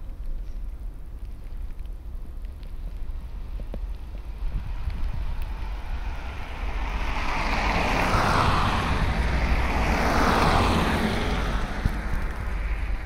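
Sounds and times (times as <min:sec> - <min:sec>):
wind rumble on microphone: 0:00.0 - 0:13.0
tyre hiss on slushy road: 0:00.3 - 0:13.0.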